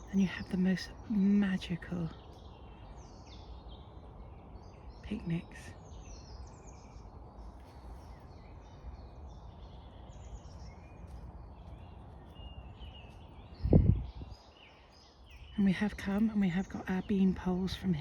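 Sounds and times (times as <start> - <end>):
birds singing and chirping: 0.0 - 18.0
steady low rumble: 0.0 - 18.0.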